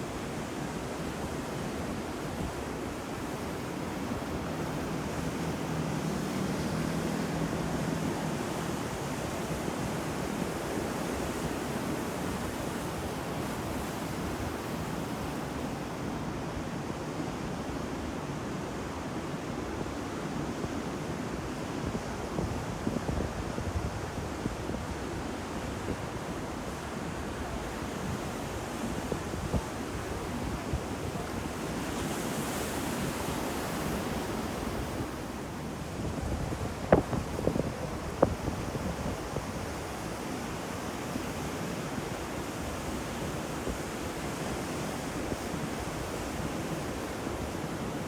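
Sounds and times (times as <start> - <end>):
ocean waves breaking on shore: 0.0 - 22.8, 23.4 - 48.0.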